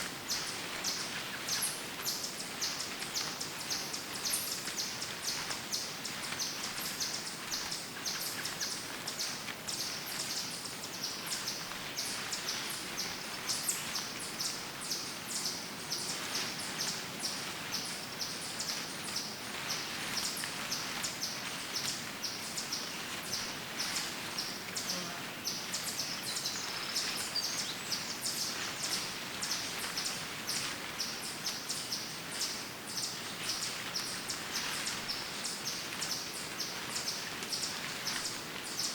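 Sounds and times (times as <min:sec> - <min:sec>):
steady background hiss: 0:00.0 - 0:38.9
small birds chirping: 0:00.3 - 0:38.9.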